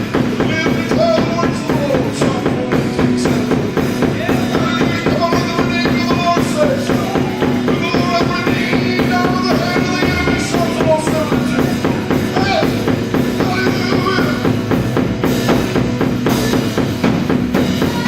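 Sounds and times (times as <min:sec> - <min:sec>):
bass guitar: 0:00.0 - 0:18.0
drum kit: 0:00.0 - 0:18.0
keyboard: 0:00.0 - 0:18.0.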